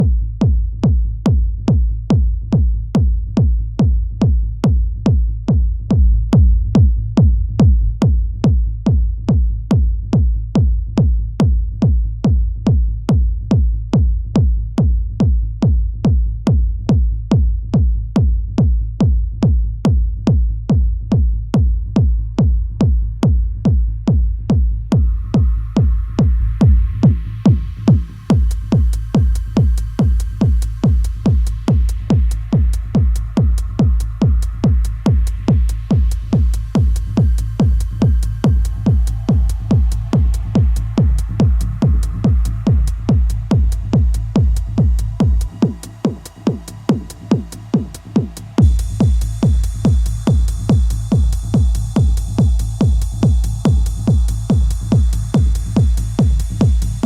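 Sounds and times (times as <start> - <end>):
techno kick drum beat: 0.0 - 57.0.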